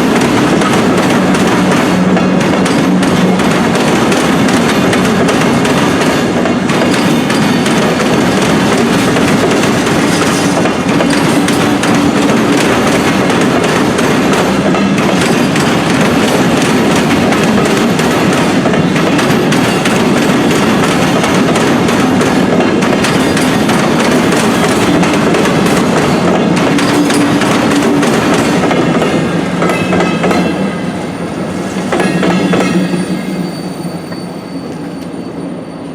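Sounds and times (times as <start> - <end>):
train wheels clattering over rails: 0.0 - 34.9.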